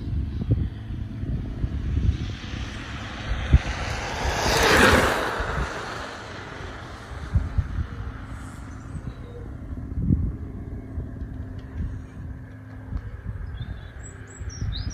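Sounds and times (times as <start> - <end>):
electric scooter passing: 0.0 - 14.9.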